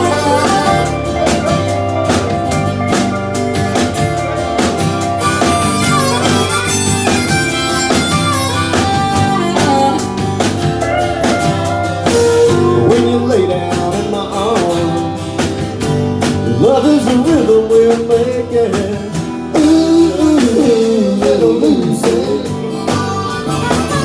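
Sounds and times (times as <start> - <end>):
bending sliding lead notes: 0.0 - 15.2, 19.6 - 24.0
country band playing: 0.0 - 24.0
steady drum beat: 0.0 - 24.0.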